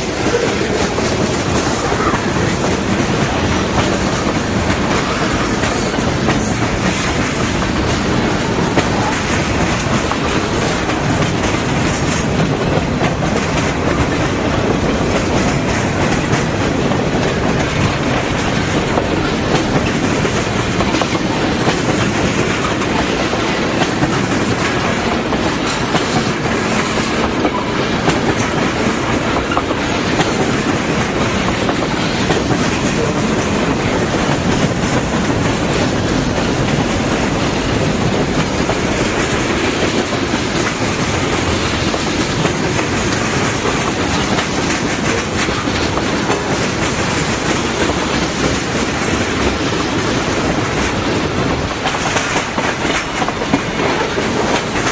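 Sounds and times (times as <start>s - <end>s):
wheels clicking over rail joints: 0.0s - 54.9s.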